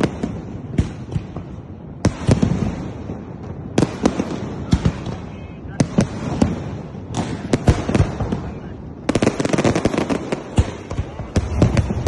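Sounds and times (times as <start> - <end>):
dense rapid fireworks crackle: 0.0 - 12.0
fireworks bangs: 0.0 - 12.0.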